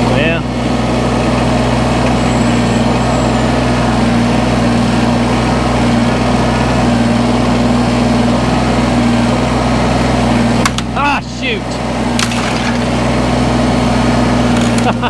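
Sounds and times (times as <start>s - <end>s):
machine engine humming: 0.0s - 15.0s.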